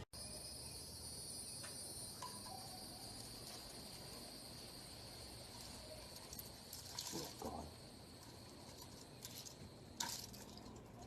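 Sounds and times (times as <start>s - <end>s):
crickets chirring: 0.1s - 11.0s.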